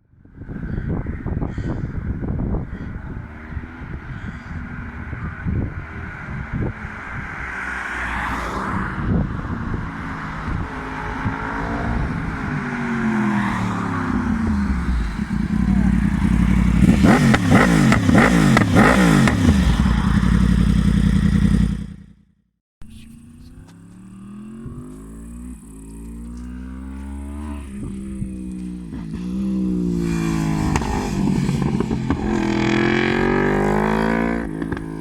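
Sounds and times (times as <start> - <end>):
motorcycle engine revving: 2.3 - 22.4, 23.0 - 35.0.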